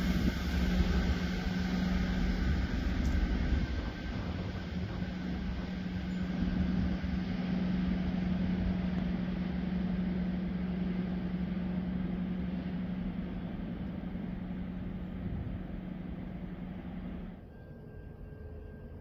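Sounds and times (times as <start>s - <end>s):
diesel train droning: 0.0s - 19.0s.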